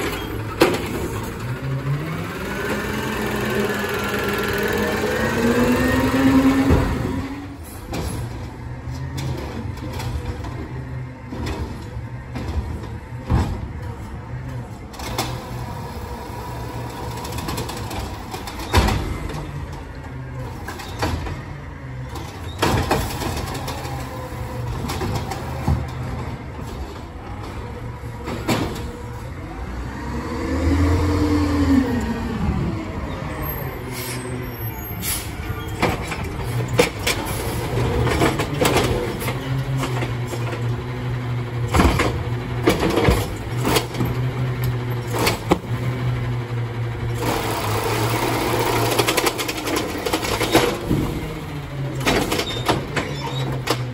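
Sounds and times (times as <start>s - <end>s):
garbage truck engine running: 0.0s - 53.9s.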